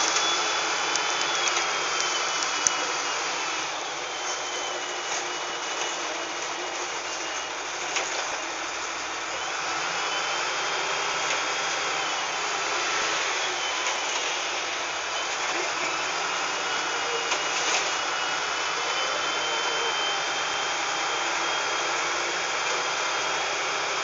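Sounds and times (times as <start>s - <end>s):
bus diesel engine running: 0.0s - 24.0s
high wavering whine: 0.0s - 24.0s.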